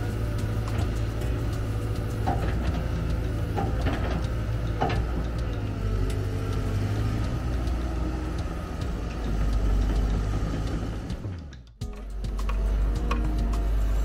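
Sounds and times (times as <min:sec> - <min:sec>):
heavy machine engine running: 0:00.0 - 0:14.0
machine parts knocking: 0:00.1 - 0:14.0.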